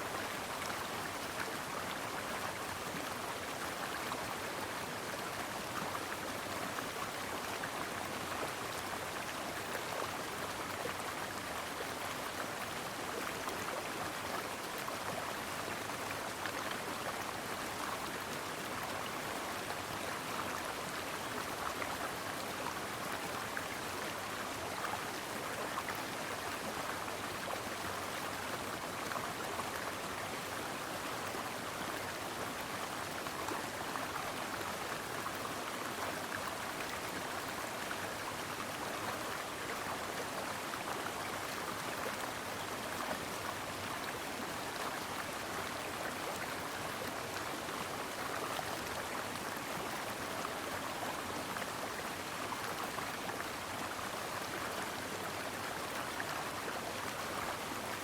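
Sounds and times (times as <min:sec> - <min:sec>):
brook water flowing: 0:00.0 - 0:58.0.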